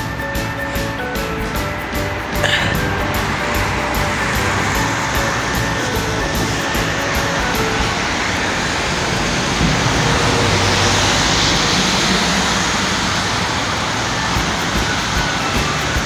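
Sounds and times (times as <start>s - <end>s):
road traffic noise: 0.0s - 16.0s
vehicle passing close by: 2.2s - 16.0s.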